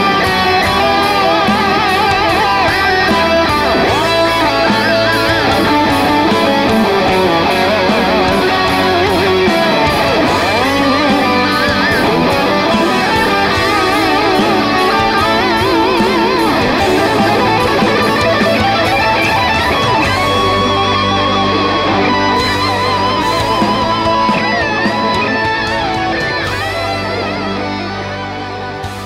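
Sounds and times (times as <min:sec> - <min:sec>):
band backing with bass: 0:00.0 - 0:29.0
electric guitar lead: 0:00.0 - 0:29.0.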